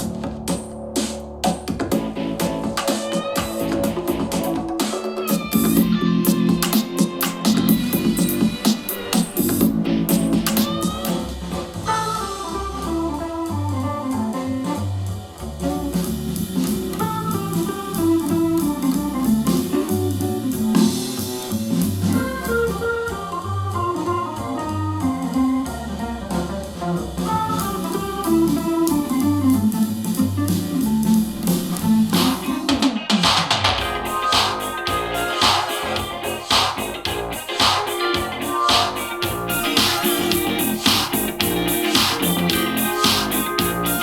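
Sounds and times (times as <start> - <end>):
instrumental music through speaker: 0.0 - 44.0.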